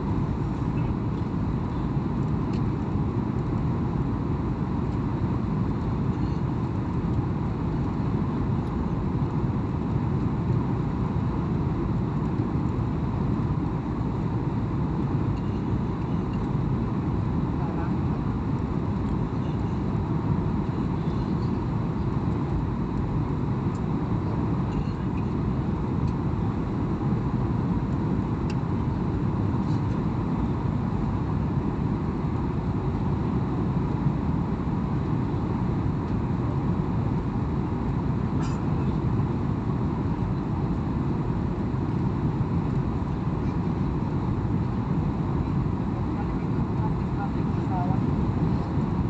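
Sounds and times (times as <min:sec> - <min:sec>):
airliner engines droning: 0:00.0 - 0:49.0.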